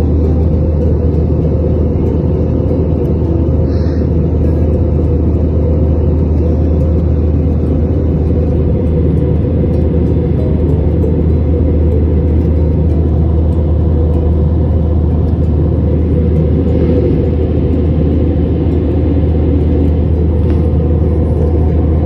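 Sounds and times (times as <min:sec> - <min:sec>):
jet airliner cabin drone: 0:00.0 - 0:22.0.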